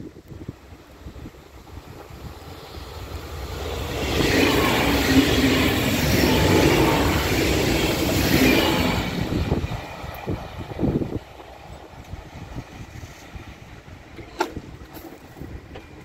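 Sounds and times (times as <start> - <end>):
train wheels rolling on rails: 0.5 - 16.0.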